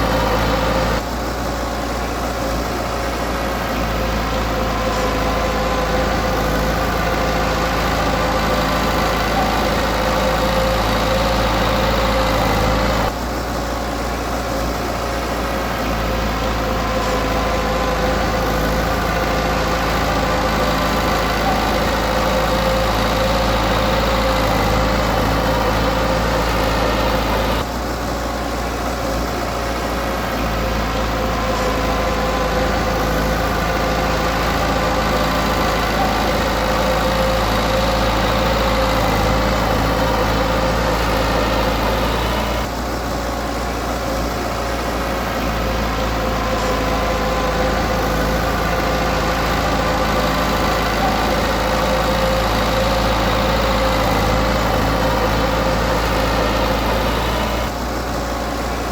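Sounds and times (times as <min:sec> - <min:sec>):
diesel engine rumbling: 0:00.0 - 0:58.9.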